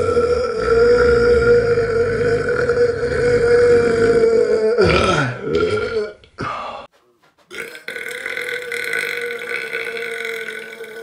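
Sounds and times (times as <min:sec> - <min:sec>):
man belching: 0:00.0 - 0:06.5, 0:07.5 - 0:11.0.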